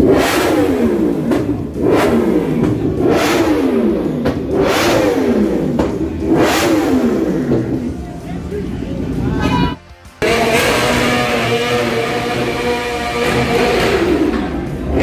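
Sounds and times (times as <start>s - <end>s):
engine revving hard: 0.0s - 8.0s, 10.2s - 15.0s.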